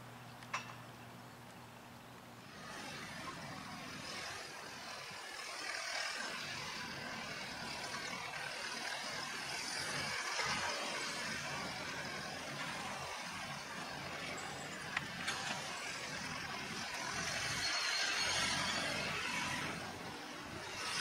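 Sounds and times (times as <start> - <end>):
diesel engine running: 2.3 - 21.0.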